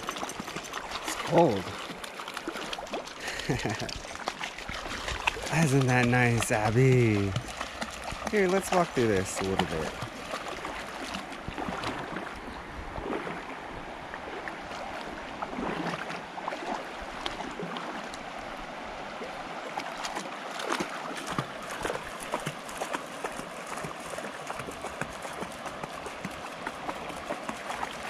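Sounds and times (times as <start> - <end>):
flowing river water: 0.0 - 28.0
splashes and sloshes of wading: 0.0 - 28.0.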